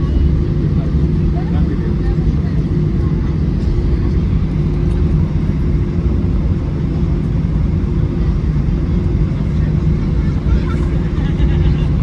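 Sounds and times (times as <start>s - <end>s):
jet engine cabin rumble: 0.0s - 12.0s
low hum: 0.0s - 12.0s.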